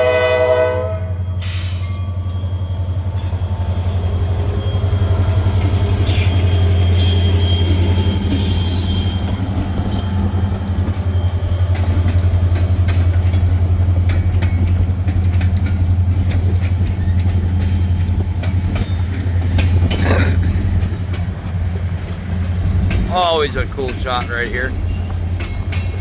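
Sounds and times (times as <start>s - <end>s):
railroad cars rumbling: 0.0s - 26.0s
wheels clicking over rail joints: 3.0s - 26.0s.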